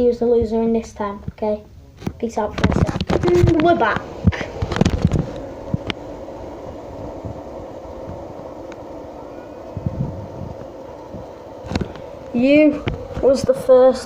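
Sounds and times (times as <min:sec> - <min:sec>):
fidget spinners whirring: 0:02.4 - 0:14.0.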